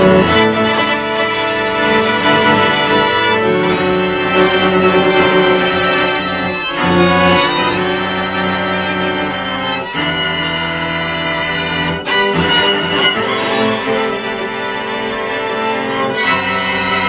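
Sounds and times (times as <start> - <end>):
string quartet bowed chords: 0.0 - 17.0.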